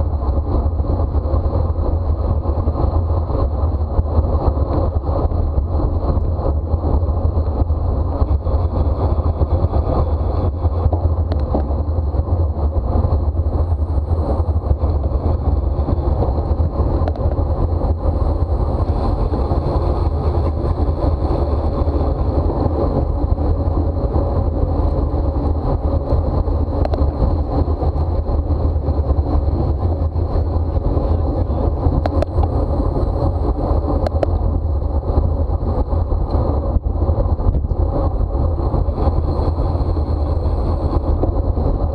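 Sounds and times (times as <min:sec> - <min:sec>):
bicycle road noise: 0:00.0 - 0:41.9
wind buffeting microphone: 0:00.0 - 0:41.9.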